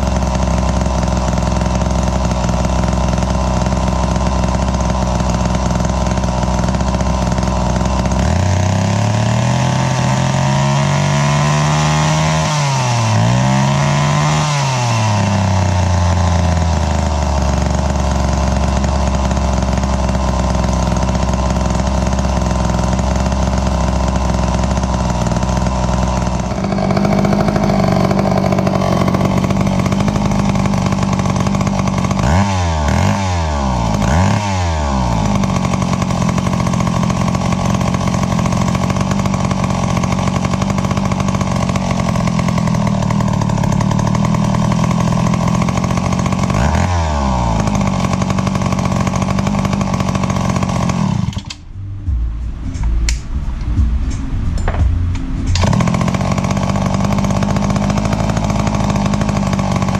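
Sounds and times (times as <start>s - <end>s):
chainsaw engine idling and revving: 0.0s - 52.2s, 52.8s - 59.9s.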